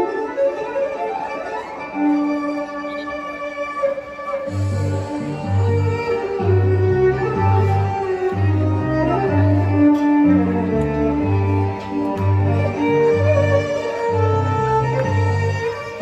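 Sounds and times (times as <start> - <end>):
string music slow melody: 0.0 - 16.0.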